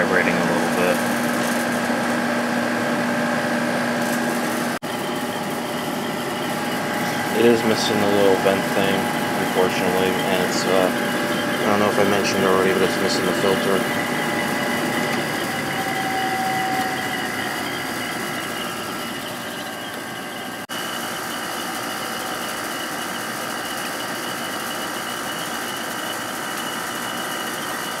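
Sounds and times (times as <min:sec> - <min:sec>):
air conditioner running: 0:00.0 - 0:28.0.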